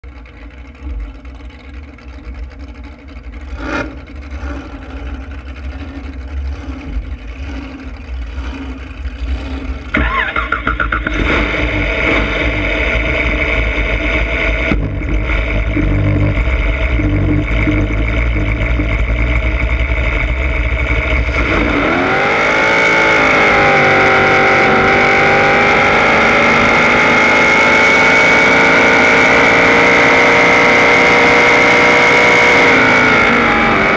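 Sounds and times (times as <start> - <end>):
boat engine rumbling: 0.0 - 33.9.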